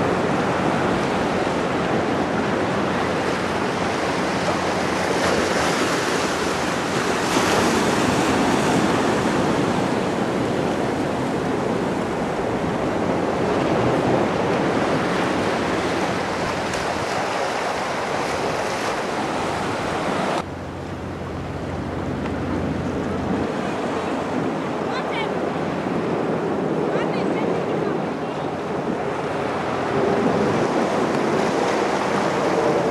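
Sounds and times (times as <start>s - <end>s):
surf washing against rocks: 0.0s - 32.9s
wind buffeting microphone: 0.0s - 32.9s.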